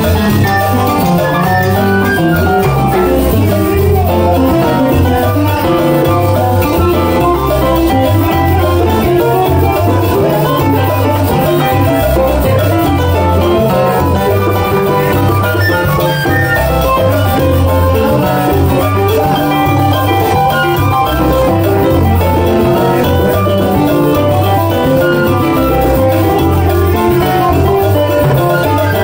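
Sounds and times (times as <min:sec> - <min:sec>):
guitar: 0:00.0 - 0:29.0
keyboard: 0:00.0 - 0:29.0
steady bass line: 0:00.0 - 0:29.0.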